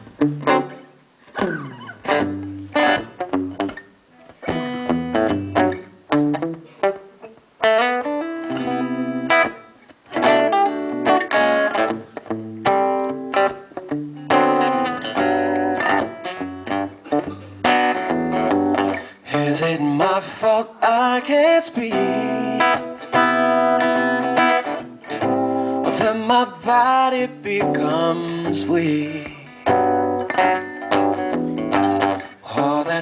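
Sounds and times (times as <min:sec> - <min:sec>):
acoustic guitar picking: 0:00.0 - 0:33.0.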